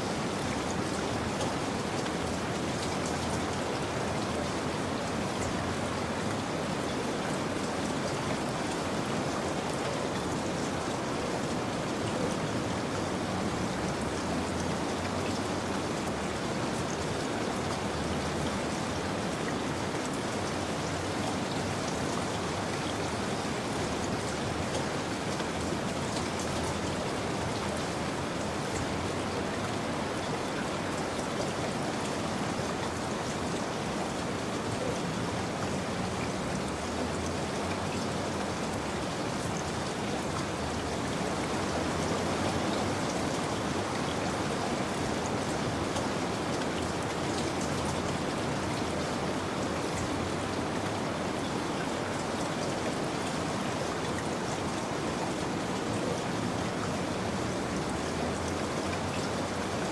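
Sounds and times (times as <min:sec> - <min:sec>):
raindrops pattering: 0:00.1 - 0:59.9.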